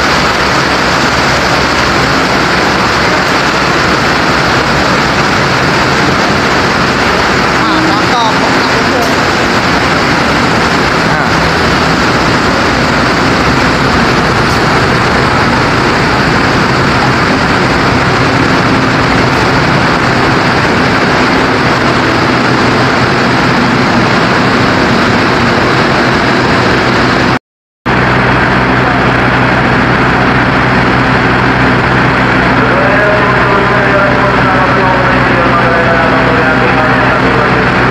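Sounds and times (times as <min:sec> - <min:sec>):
diesel locomotive idling: 0:00.0 - 0:37.9.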